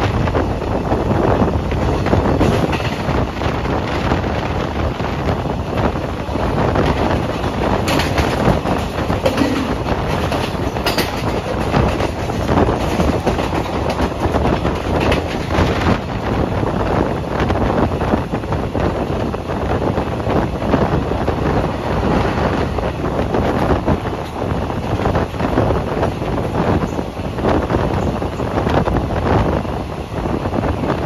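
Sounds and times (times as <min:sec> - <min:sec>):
train wheels clattering on track: 0:00.0 - 0:31.0
wind buffeting microphone: 0:00.0 - 0:31.0.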